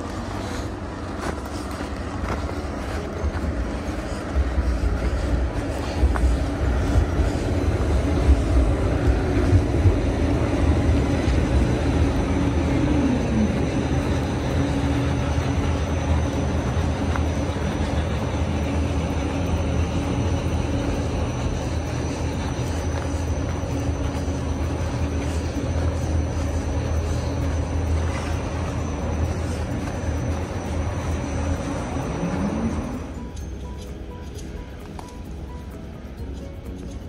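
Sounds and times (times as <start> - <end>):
city traffic rumble: 0.0 - 37.0
droning motor hum: 0.0 - 37.0.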